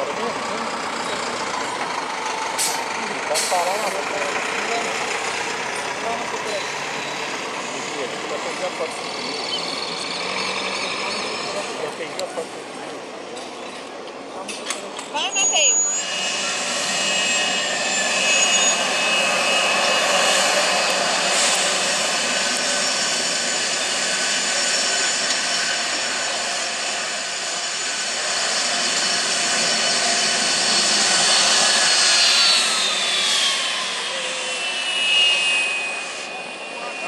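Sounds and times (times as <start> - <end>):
jet engines whining: 0.0 - 37.0.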